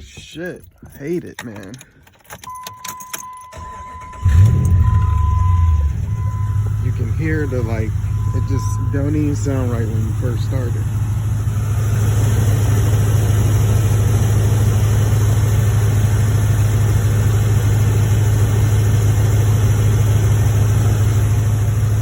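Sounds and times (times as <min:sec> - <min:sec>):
engine idling: 0:00.0 - 0:22.0
rapid exhaust clicking: 0:00.0 - 0:22.0.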